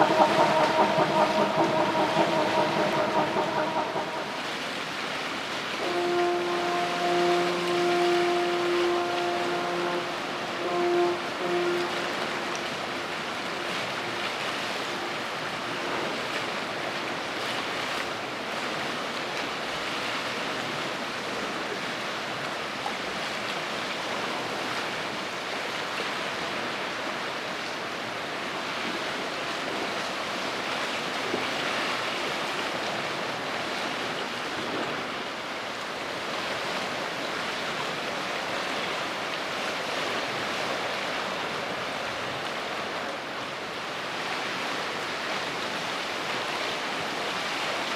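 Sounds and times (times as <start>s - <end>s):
wind and water rushing: 0.0s - 47.9s.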